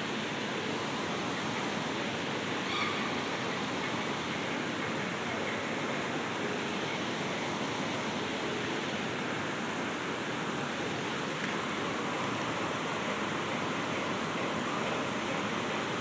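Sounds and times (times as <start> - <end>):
rush of running water: 0.0 - 16.0.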